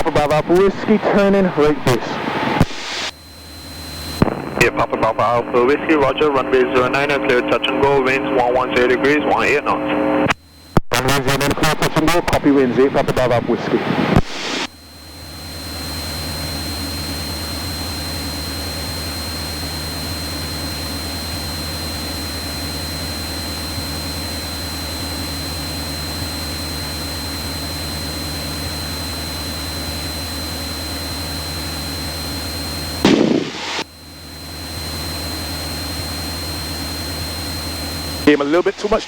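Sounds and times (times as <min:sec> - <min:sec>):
airplane engine and propeller droning: 0:00.0 - 0:10.2, 0:11.3 - 0:39.0
faint high whine: 0:00.0 - 0:39.0.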